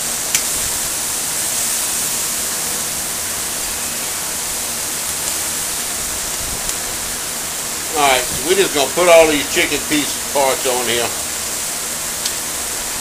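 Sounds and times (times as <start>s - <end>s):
chicken sizzling on a grill: 0.0s - 13.0s.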